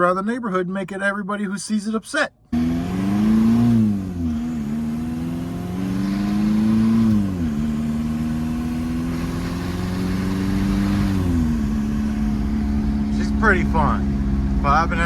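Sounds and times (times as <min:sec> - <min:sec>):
car engine accelerating: 0:02.5 - 0:15.0.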